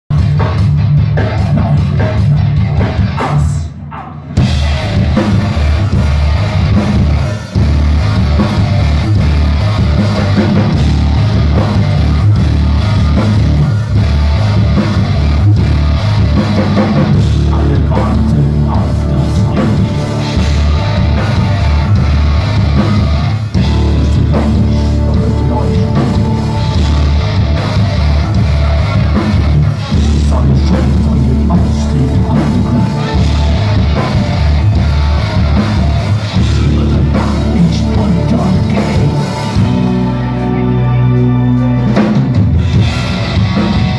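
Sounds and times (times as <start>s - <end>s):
rock band playing: 0.1s - 43.9s.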